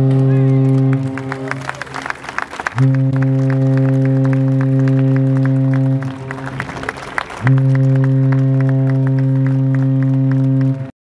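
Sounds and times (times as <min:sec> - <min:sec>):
ship's horn blowing: 0:00.0 - 0:10.9
applause: 0:00.0 - 0:11.0.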